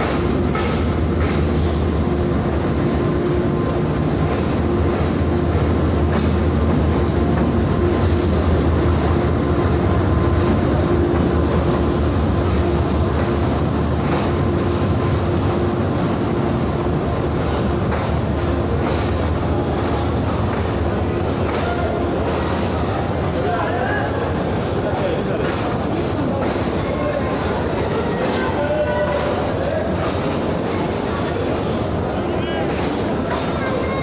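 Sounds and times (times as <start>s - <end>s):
train engine drone: 0.0s - 34.0s.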